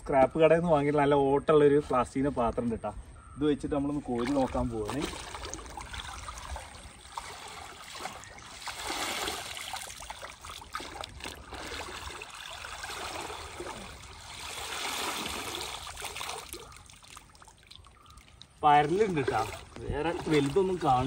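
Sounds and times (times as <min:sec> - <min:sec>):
muddy water sloshing: 0:03.8 - 0:21.0.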